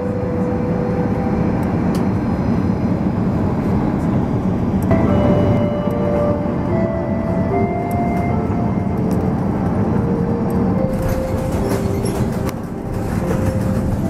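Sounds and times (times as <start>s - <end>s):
airliner engines and wheels rumbling: 0.0s - 14.0s.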